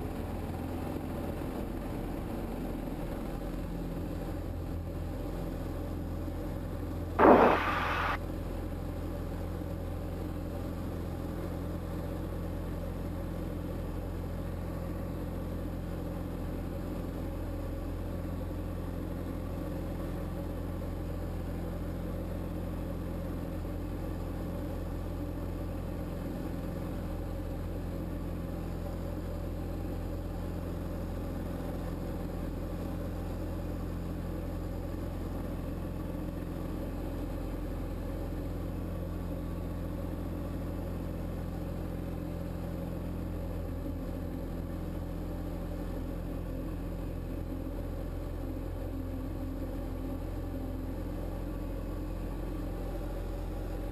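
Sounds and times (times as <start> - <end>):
propeller plane engine drone: 0.0 - 53.9.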